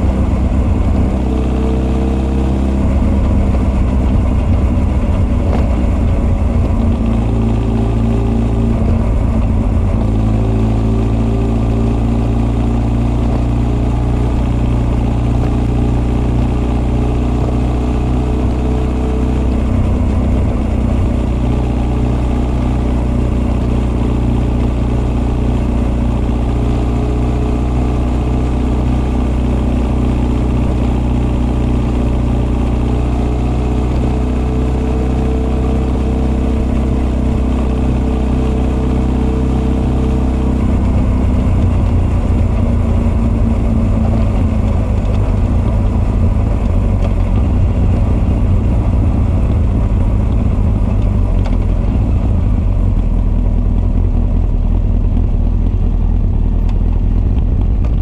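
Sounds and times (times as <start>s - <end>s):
exhaust note: 0.0s - 58.0s
motorcycle engine running: 0.0s - 58.0s.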